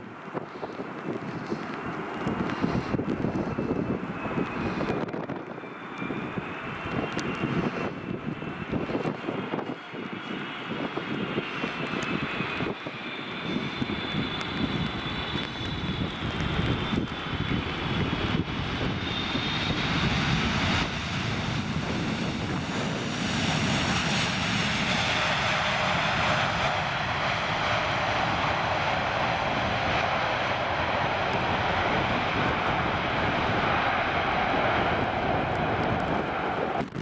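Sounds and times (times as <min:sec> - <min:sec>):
jet airliner engines rushing: 0:00.0 - 0:37.0.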